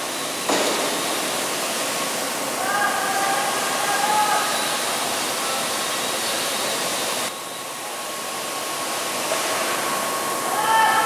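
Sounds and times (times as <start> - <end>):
workshop ambient rushing noise: 0.0 - 11.0.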